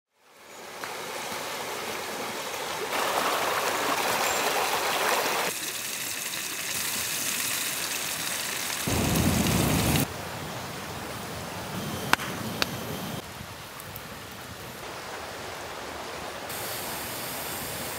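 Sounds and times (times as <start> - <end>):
campfire rushing and hissing: 2.9 - 17.9.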